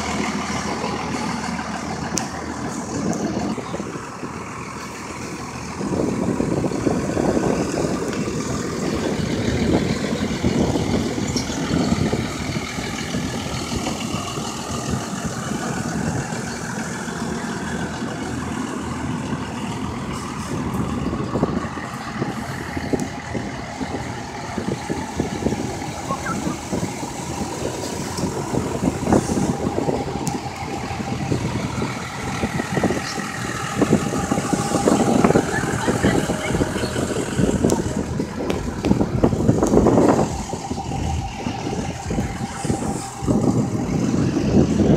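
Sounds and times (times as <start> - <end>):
truck engines idling: 0.0 - 44.9.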